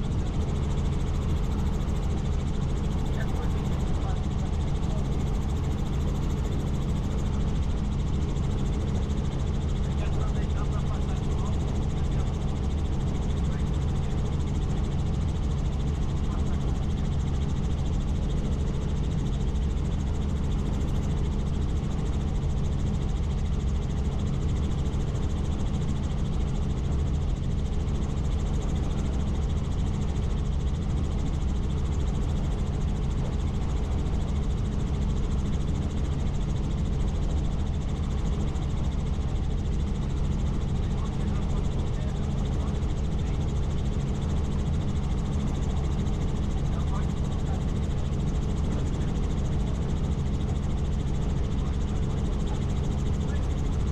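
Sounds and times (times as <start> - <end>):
helicopter rotor drone: 0.0 - 53.9.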